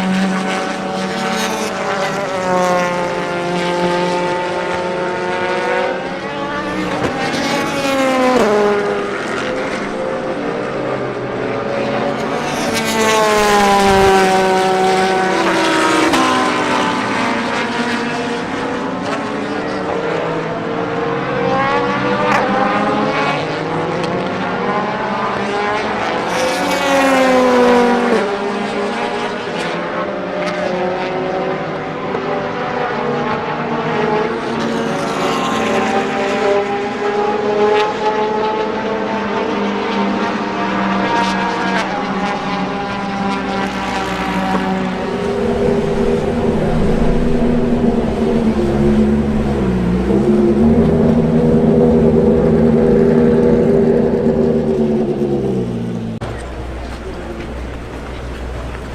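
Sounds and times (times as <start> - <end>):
race car engines passing: 0.0 - 58.9.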